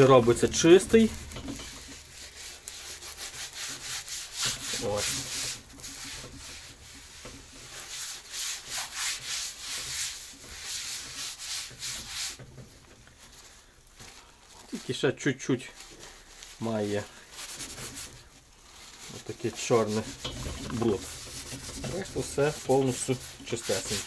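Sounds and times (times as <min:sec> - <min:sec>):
paper towel rubbing on pot: 0:00.0 - 0:24.0.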